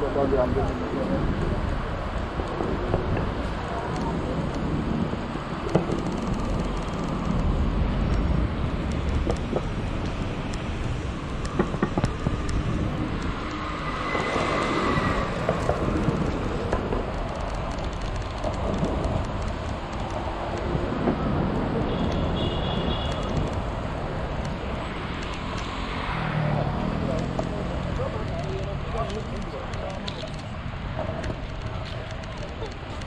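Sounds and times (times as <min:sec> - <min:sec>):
scooter wheels rolling on paving: 0:00.0 - 0:33.0
street traffic: 0:00.0 - 0:33.0.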